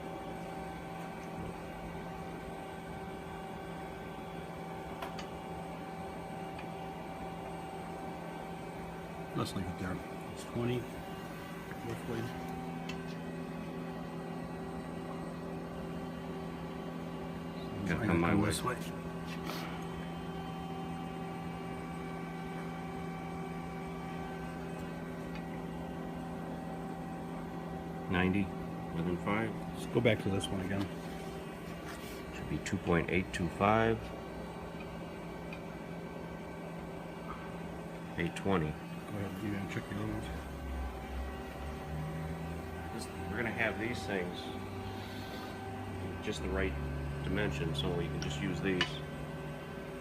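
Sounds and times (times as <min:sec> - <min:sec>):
electrical hum: 0:00.0 - 0:50.0.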